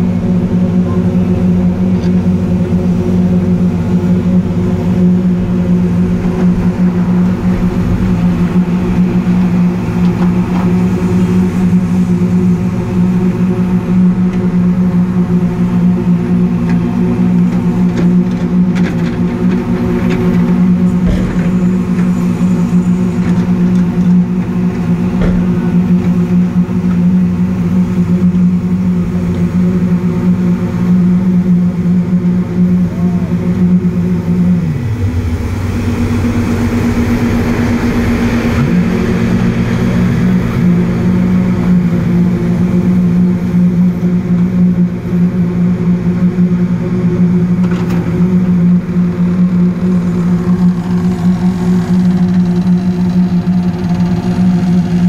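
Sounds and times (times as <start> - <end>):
diesel construction machinery droning: 0.0 - 55.0.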